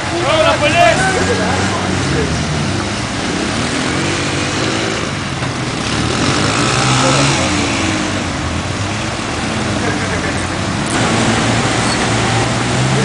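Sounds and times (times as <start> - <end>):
off-road vehicle engine revving: 0.0 - 13.0
water churning around tyres: 0.0 - 13.0.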